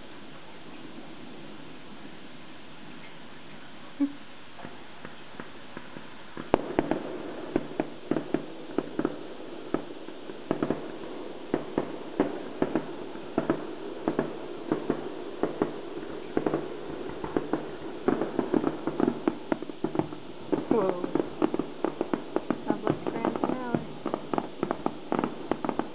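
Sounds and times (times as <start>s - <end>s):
fireworks popping and banging: 2.9s - 25.9s.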